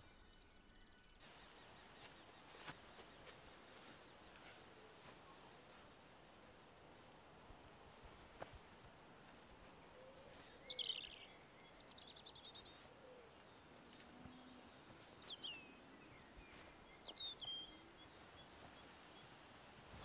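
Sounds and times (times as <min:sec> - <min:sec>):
quiet rural ambience: 0:00.0 - 0:20.0.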